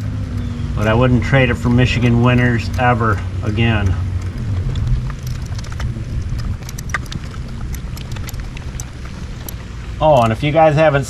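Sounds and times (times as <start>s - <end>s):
hand tools clicking and tapping: 0.0s - 10.4s
steady low rumble: 0.0s - 11.0s.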